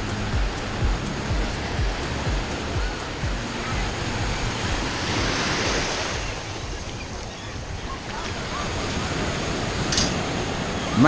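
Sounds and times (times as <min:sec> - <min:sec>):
ocean surf washing on beach: 0:00.0 - 0:11.0
wind buffeting microphone: 0:00.0 - 0:11.0.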